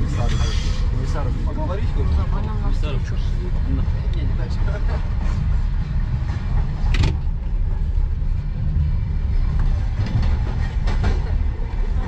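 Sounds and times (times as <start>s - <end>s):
train carriage rumbling on track: 0.0s - 12.0s.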